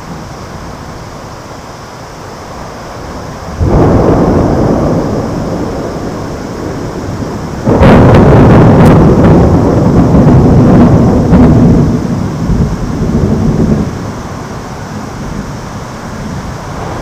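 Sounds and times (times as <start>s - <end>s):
thunder clap rumbling: 2.9s - 17.0s.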